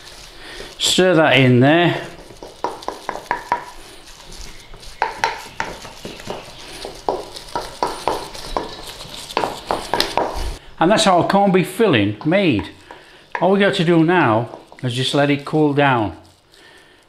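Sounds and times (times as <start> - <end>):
wooden spoon scraping metal bowl: 0.0 - 10.6, 12.1 - 15.8.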